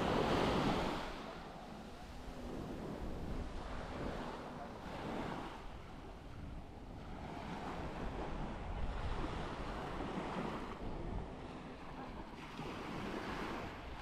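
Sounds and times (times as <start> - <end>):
waves washing up beach: 0.0 - 14.0
wind rumbling on microphone: 0.0 - 14.0.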